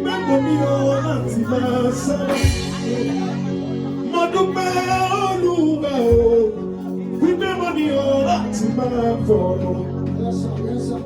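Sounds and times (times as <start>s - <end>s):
person singing gospel: 0.0s - 11.0s
sustained bass notes: 0.0s - 11.0s.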